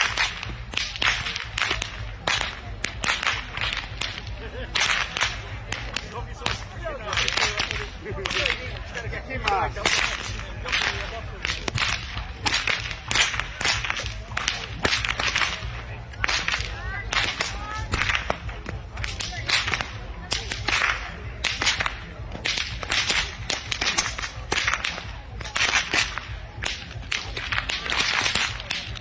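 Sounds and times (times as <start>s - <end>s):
whips cracking: 0.0s - 29.0s.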